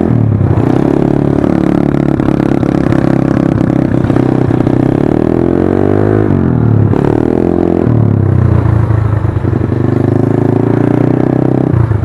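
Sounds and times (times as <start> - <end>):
loud scooter engine revving: 0.0 - 12.0.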